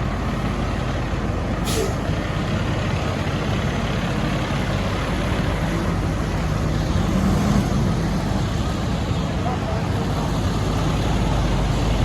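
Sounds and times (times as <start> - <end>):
fire truck engine running: 0.0 - 12.0.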